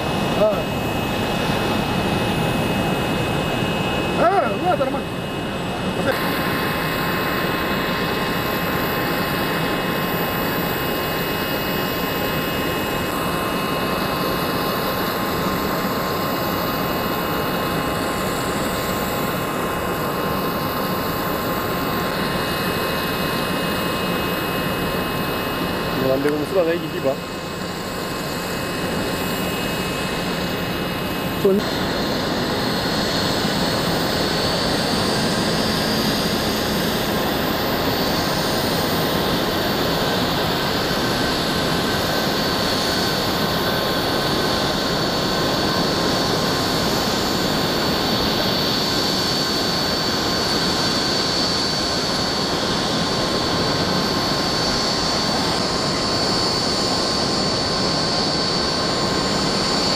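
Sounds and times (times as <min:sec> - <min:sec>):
jet engines whining at idle: 0:00.0 - 0:59.9.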